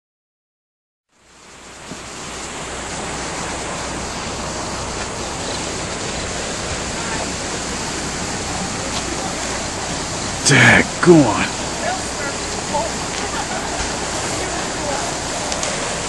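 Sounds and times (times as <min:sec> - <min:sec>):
floodwater rushing: 0:01.1 - 0:16.0.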